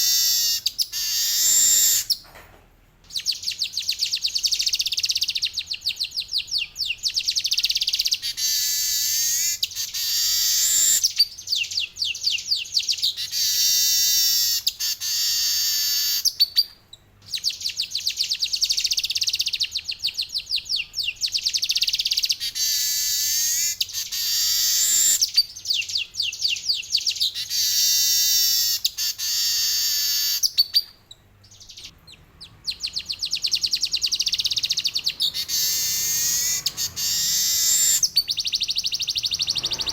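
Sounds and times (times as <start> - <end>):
weaver bird singing: 0.0 - 2.2, 3.1 - 39.9.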